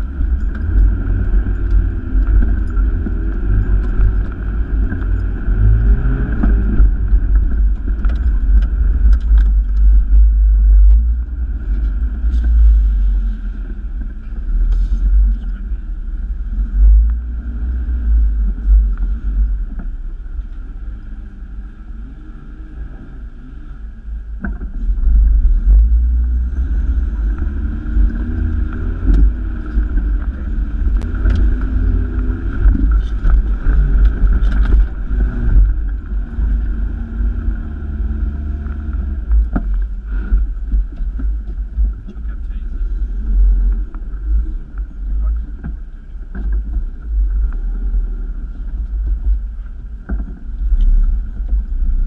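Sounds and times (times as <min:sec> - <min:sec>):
engine and drivetrain rumble: 0:00.0 - 0:52.0.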